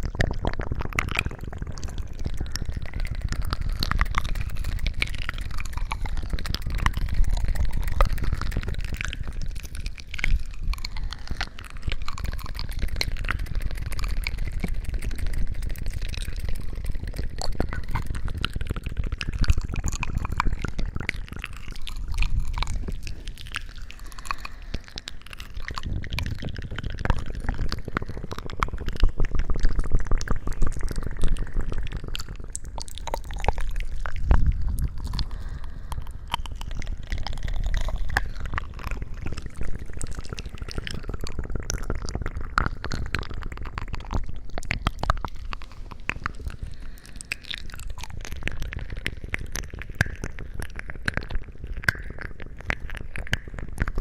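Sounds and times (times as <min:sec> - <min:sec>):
wet squishing and crackling: 0:00.0 - 0:54.0.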